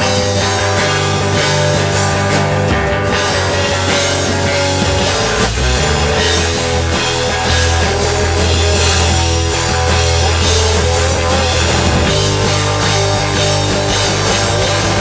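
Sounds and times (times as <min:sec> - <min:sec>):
bass guitar: 0:00.0 - 0:15.0
distorted electric guitars: 0:00.0 - 0:15.0
drum kit: 0:00.0 - 0:15.0.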